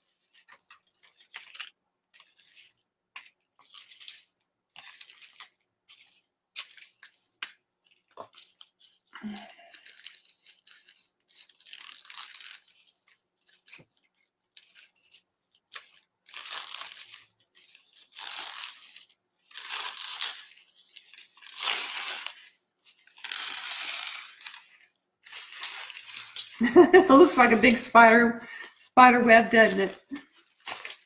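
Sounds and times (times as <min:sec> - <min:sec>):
plastic bag rustling and crinkling: 0:00.0 - 0:31.0.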